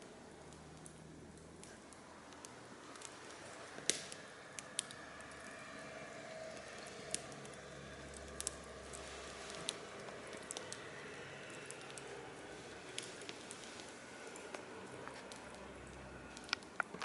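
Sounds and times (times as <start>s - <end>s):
faint steady hiss: 0.0s - 17.0s
fire crackling and popping: 0.0s - 17.0s.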